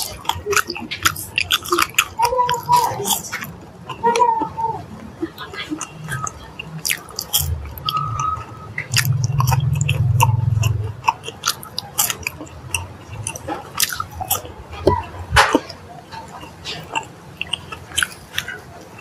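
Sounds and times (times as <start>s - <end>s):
lip smacks: 0.0s - 4.2s, 5.7s - 18.7s
low steady hum: 0.0s - 19.0s
wet chewing: 0.0s - 19.0s.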